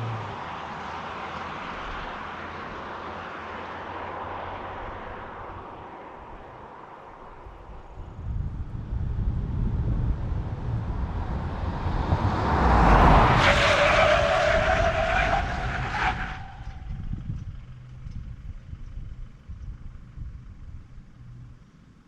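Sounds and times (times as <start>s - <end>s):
diesel engine driving under load: 0.0s - 22.0s.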